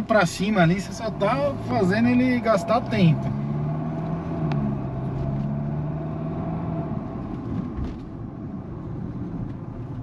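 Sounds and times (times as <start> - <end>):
road rumble: 0.0 - 10.0.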